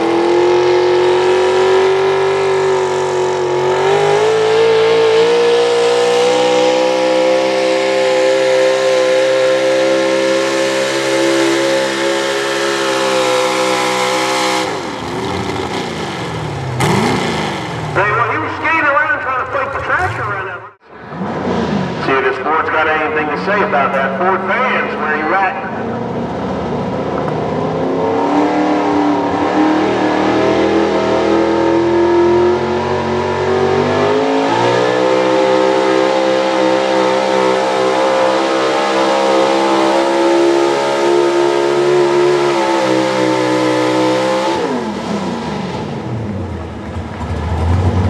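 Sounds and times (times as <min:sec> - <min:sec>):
truck engine at high revs: 0:00.0 - 0:48.0.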